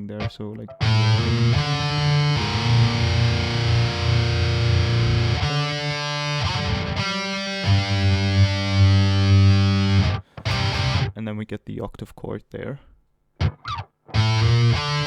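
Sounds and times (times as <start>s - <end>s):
distorted electric guitar riff: 0.0s - 11.1s, 13.4s - 15.0s.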